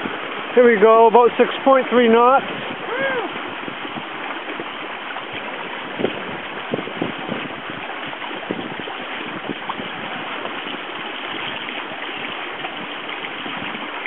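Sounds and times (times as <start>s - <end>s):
water rushing past boat hull: 0.0s - 14.0s.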